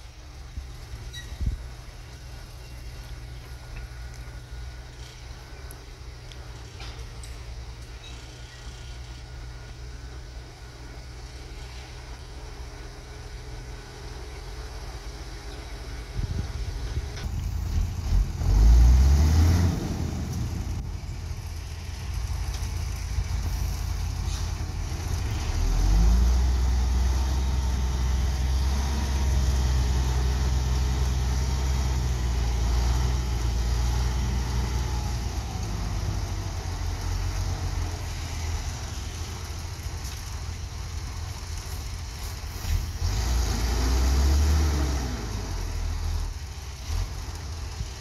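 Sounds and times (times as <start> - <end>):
diesel truck engine revving: 0.0 - 48.0.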